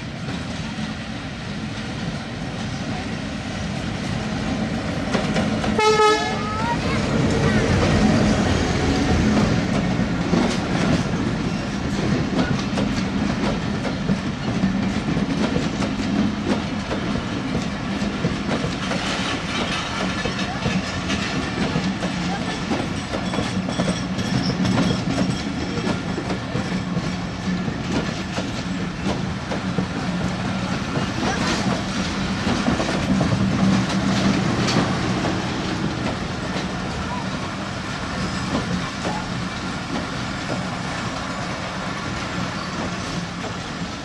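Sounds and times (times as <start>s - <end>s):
train rumble: 0.0s - 44.0s
wheels clattering over rail joints: 6.6s - 44.0s.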